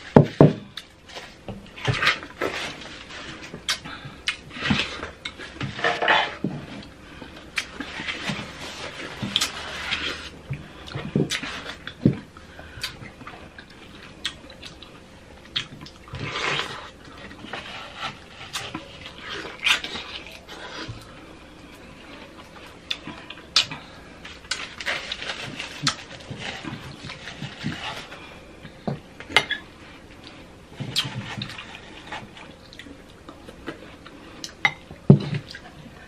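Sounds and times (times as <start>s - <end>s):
chewing juicy fruit: 0.6s - 36.0s.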